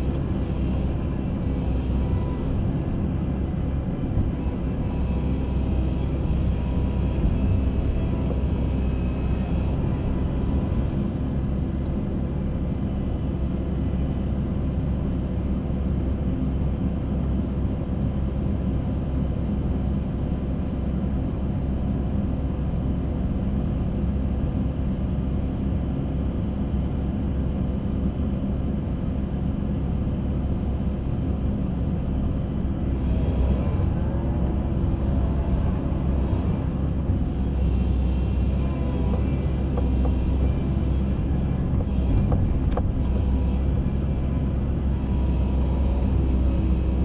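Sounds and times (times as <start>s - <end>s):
concrete mixer engine drone: 0.0s - 47.0s.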